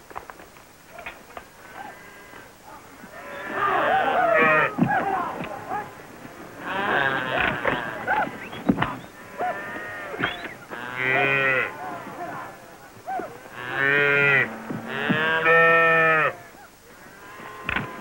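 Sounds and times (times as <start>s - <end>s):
calf bawling: 0.9s - 6.0s, 6.6s - 16.7s.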